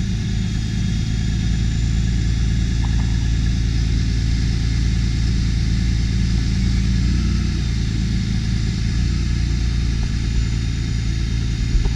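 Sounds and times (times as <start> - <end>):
truck engine idling: 0.0 - 11.9.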